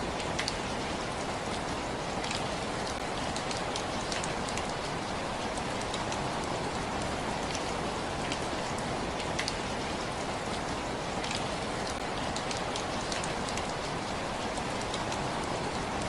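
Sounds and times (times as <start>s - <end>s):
raindrops hitting a surface: 0.0s - 16.0s
steady rain hiss: 0.0s - 16.0s.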